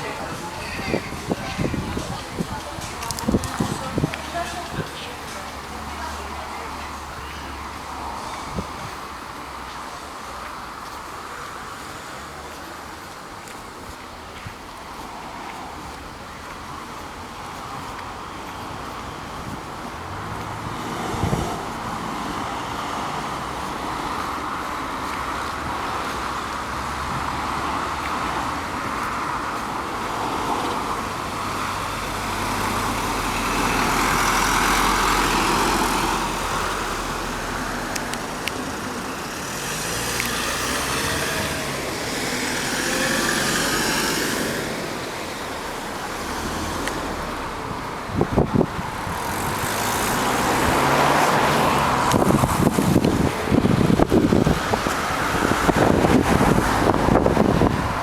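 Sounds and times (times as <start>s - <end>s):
hum of cars: 0.0s - 58.0s
vehicles passing: 0.0s - 58.0s.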